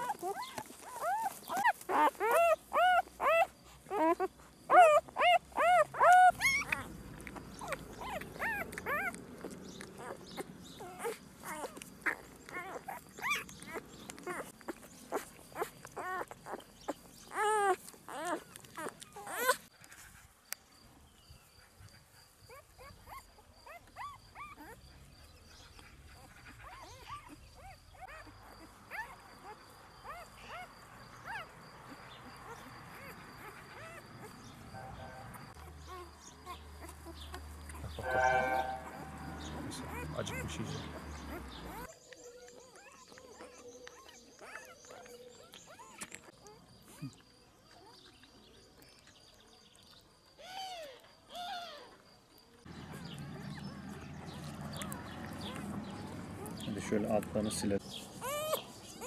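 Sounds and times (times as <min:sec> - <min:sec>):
puppies whimpering and squealing: 0:00.0 - 0:20.0, 0:21.6 - 0:48.4, 0:49.7 - 0:59.0.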